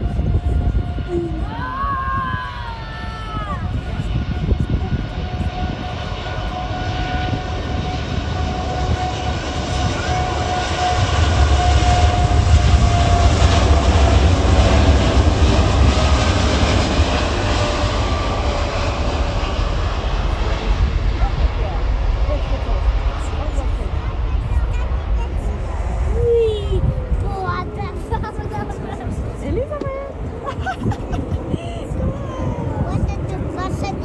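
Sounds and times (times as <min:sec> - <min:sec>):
airliner engines rumbling: 0:00.0 - 0:34.0
whining engine tone: 0:00.0 - 0:34.0.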